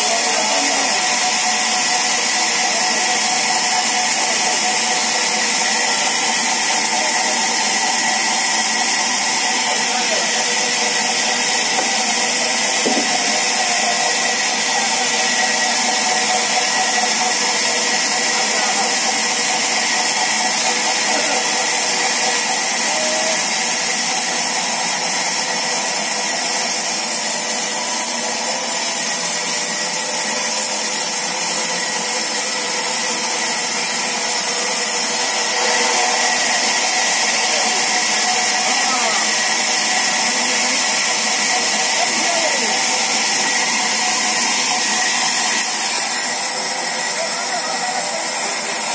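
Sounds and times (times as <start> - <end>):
sawmill machinery running: 0.0 - 48.9.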